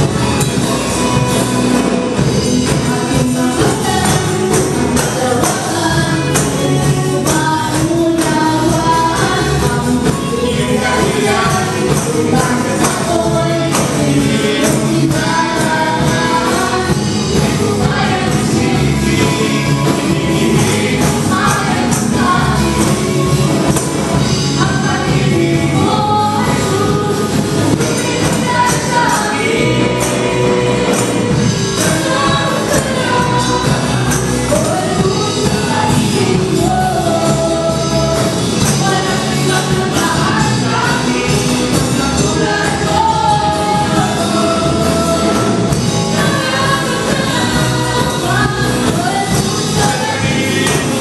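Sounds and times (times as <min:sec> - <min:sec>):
gospel worship song: 0:00.0 - 0:51.0.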